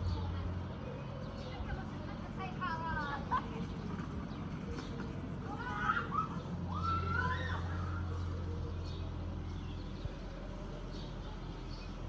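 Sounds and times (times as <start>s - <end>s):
distant tractor with flail mower: 0.0s - 12.0s.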